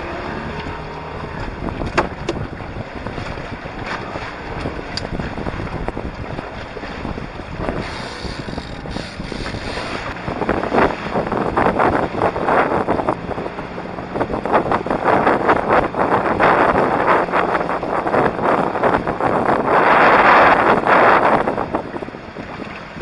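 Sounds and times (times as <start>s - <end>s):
water rushing along hulls: 0.0s - 23.0s
wind buffeting microphone: 0.0s - 23.0s.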